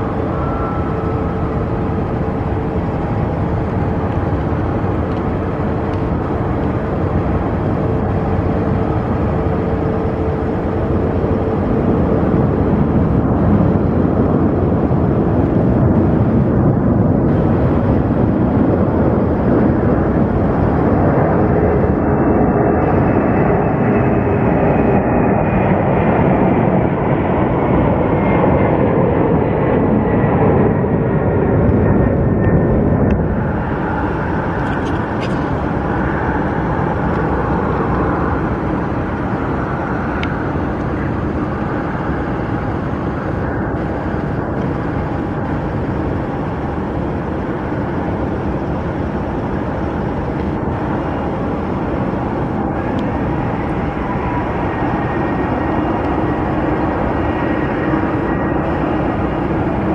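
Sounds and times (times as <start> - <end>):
high jet whine: 0.0 - 59.9
jet engines at takeoff: 0.0 - 59.9.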